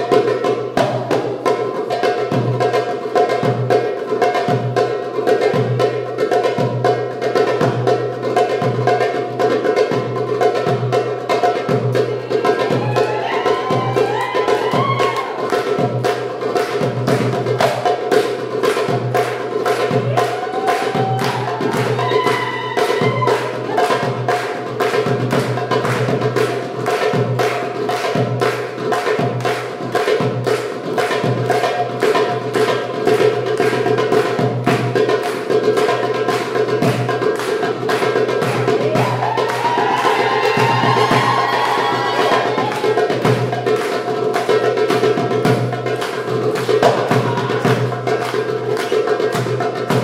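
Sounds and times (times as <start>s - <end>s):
hand drum fast rhythm: 0.0s - 50.0s.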